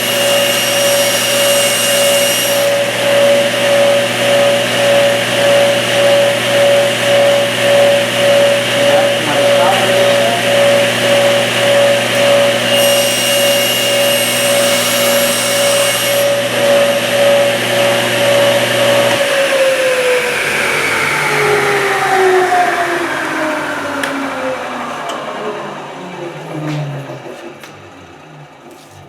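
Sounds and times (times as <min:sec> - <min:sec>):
saw whining through plastic: 0:00.0 - 0:25.2
saw blade winding down: 0:00.0 - 0:26.4
table saw running: 0:00.0 - 0:28.6.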